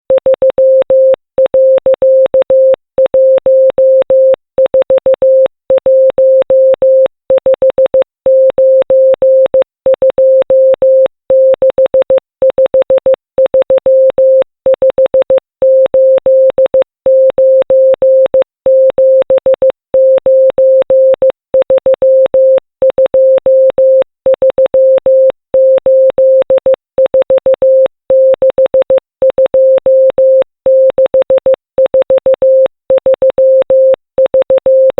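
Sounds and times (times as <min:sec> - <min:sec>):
morse code tone: 0:00.1 - 0:34.9.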